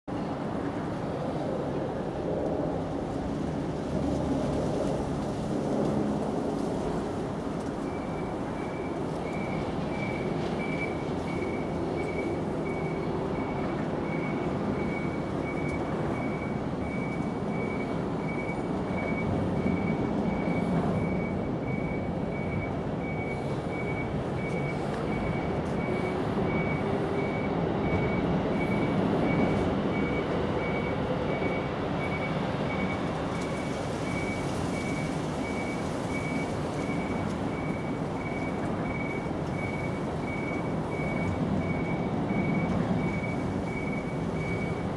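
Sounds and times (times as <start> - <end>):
low engine rumble: 0.1 - 44.9
reversing alarm beeping: 7.8 - 44.9.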